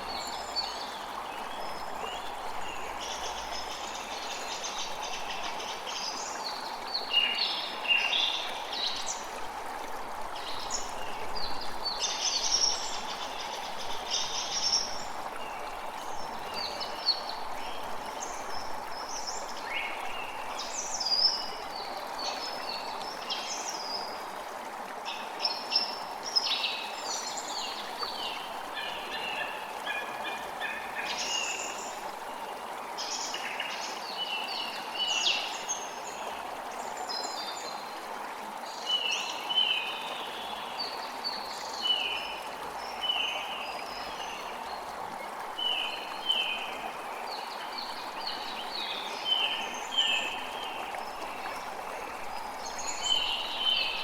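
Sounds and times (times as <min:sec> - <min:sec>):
creek water running: 0:00.0 - 0:54.0.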